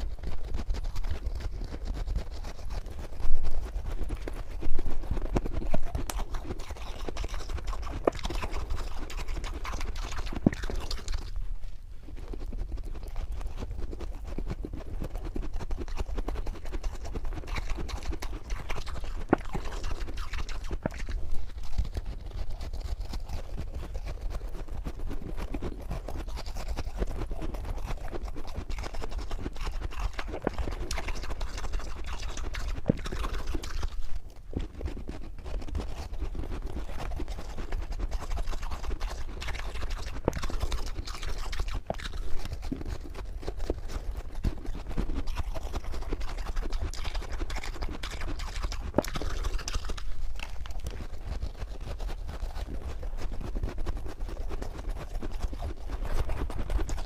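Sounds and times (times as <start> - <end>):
chewing and crunching frost: 0.0 - 57.0.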